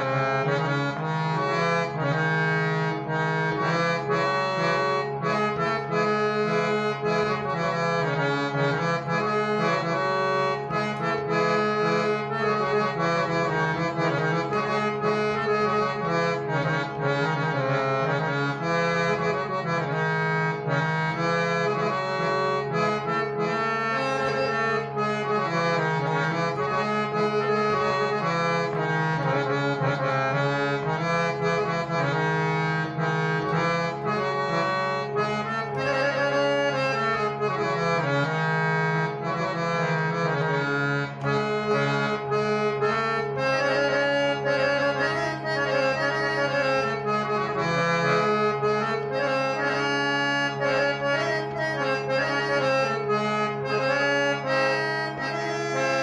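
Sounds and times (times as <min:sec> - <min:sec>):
harmonium melody over drone: 0:00.0 - 0:56.0.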